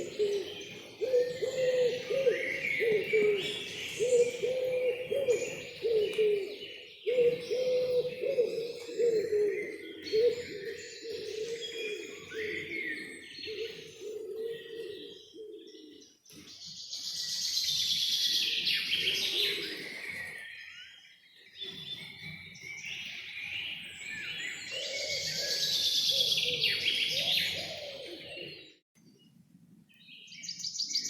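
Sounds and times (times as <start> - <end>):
songbirds singing: 0.0 - 31.0.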